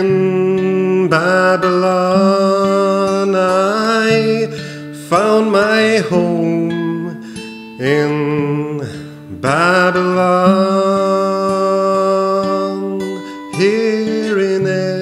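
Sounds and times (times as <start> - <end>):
acoustic guitar: 0.0 - 15.0
man singing: 0.0 - 15.0.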